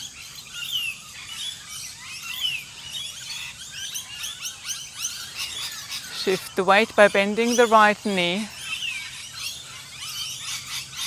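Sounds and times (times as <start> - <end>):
wild birds singing: 0.0 - 11.0.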